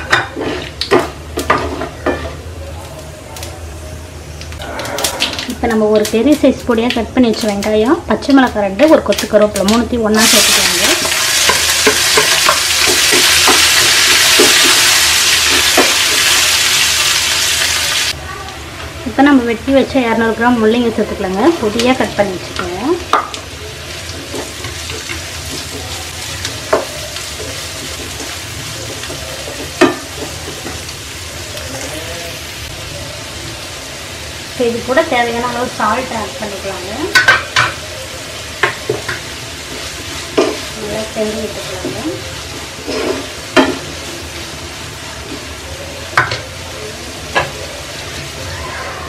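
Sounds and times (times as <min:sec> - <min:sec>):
vegetables sizzling in a pan: 0:00.0 - 0:49.0.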